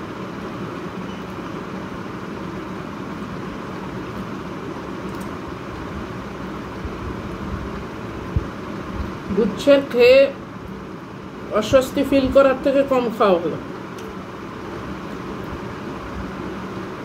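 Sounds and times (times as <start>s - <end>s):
faint steady hum: 0.0s - 17.0s
low rumbling background noise: 0.0s - 17.0s.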